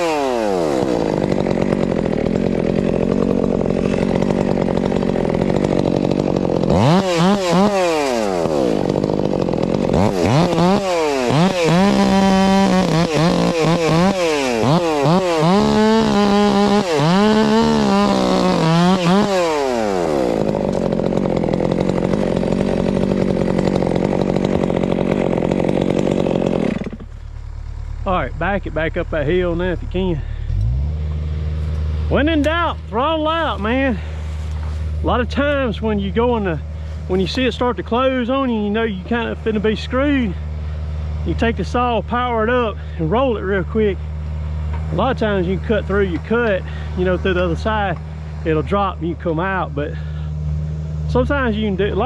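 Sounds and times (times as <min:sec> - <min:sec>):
chainsaw revving: 0:00.0 - 0:52.0.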